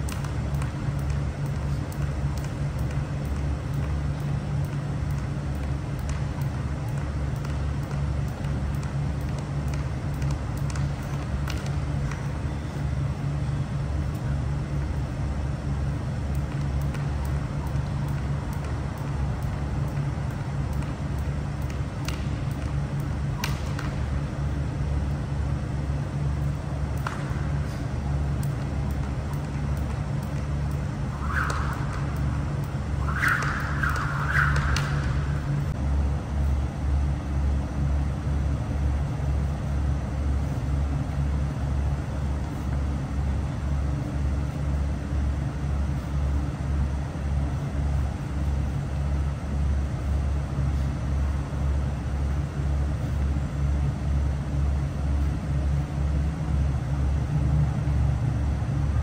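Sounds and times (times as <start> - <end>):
low hum of fans: 0.0 - 59.0.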